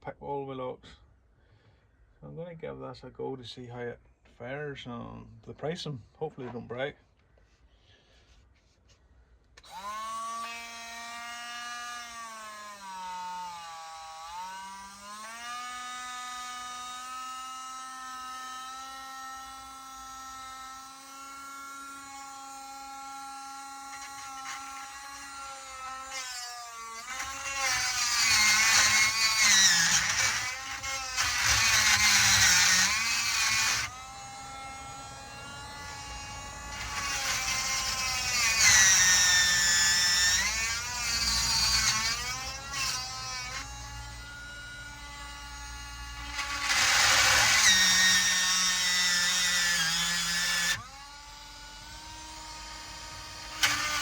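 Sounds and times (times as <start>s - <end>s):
rotary tool grinding metal: 9.6s - 54.0s
rotary tool whining: 9.6s - 54.0s.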